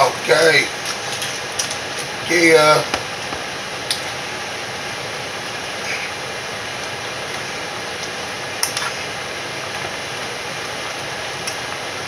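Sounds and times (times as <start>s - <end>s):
fan-like hiss: 0.0s - 12.0s.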